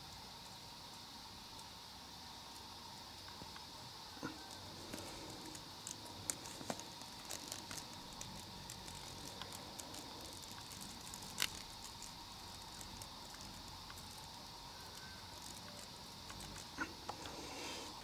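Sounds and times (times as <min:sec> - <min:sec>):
insect chorus high buzzing: 0:00.0 - 0:18.0.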